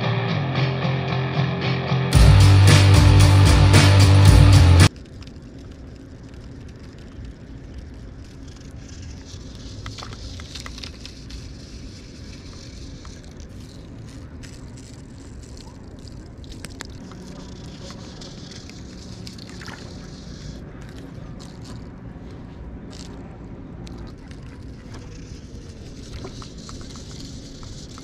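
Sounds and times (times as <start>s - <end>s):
rustles: 4.9s - 28.0s.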